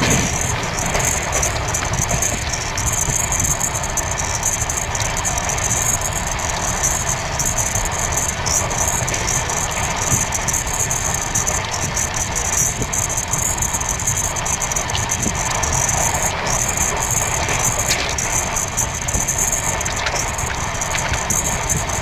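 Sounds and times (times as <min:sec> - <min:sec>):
passenger train running: 0:00.0 - 0:22.0.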